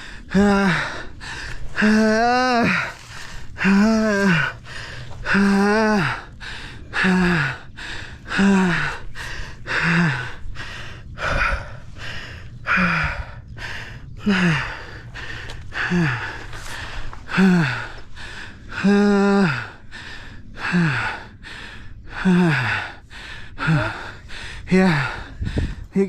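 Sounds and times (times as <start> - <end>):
man gasping and groaning: 0.0 - 26.0.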